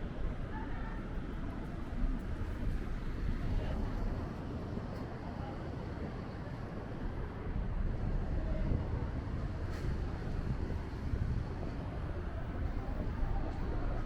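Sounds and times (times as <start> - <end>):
city background rumble: 0.0 - 14.0.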